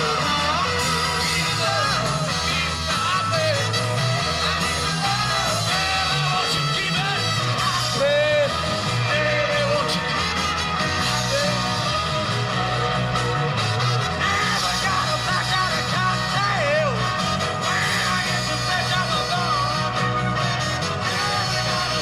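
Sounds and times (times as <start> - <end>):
bass guitar: 0.0 - 22.0
drums: 0.0 - 22.0
electric guitars: 0.0 - 22.0
lead vocal singing: 0.0 - 22.0.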